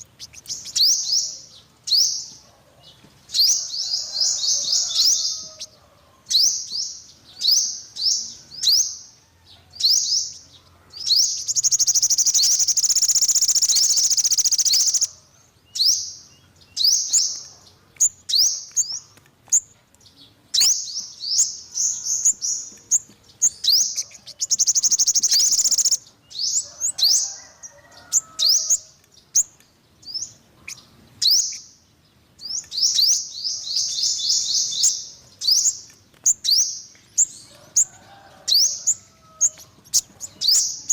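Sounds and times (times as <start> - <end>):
sunbird chirping and trilling: 0.0 - 2.4, 3.3 - 40.9.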